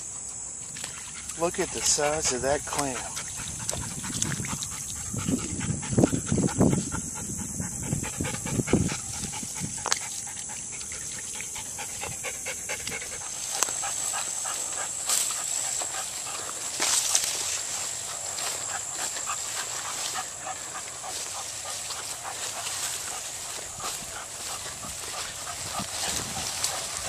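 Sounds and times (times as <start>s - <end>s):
steady high hiss: 0.0s - 3.7s, 5.8s - 27.0s
dog panting: 0.9s - 27.0s.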